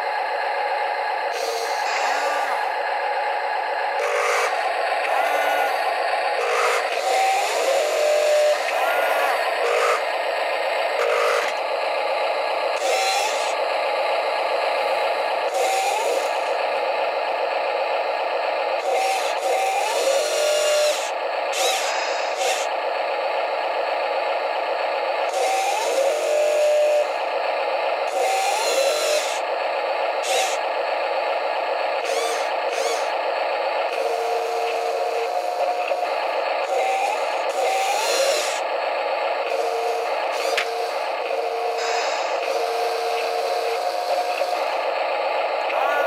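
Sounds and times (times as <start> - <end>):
small electric motors whirring: 1.2 - 3.2, 3.8 - 18.1, 18.7 - 46.0.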